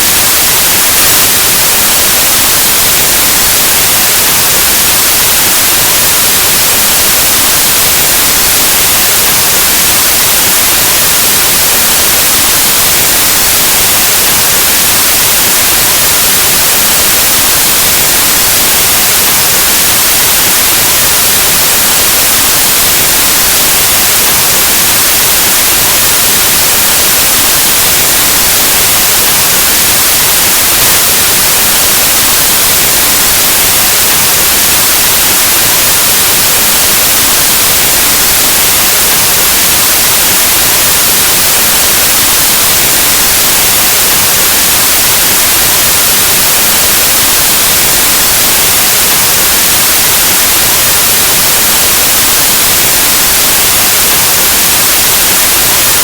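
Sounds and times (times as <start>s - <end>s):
loud white noise hiss: 0.0s - 56.0s.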